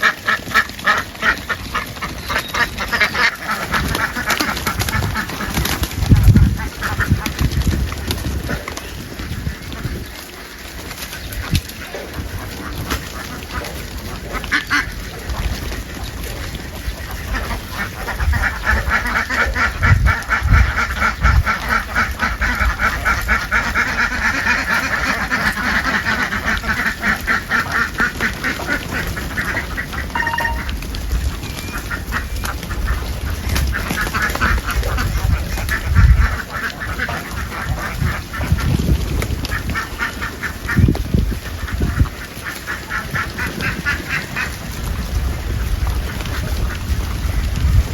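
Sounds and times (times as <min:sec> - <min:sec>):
flock of ducks quacking: 0:00.0 - 0:47.9.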